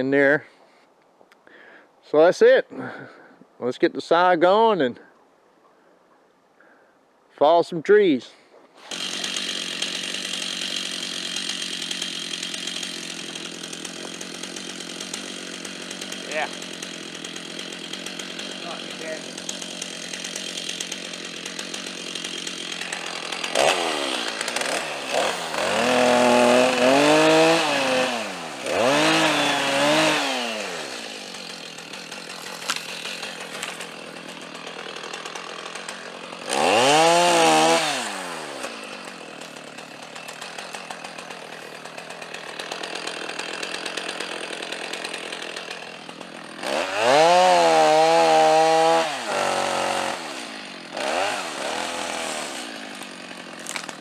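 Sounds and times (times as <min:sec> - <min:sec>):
chainsaw revving: 0:08.8 - 0:54.0.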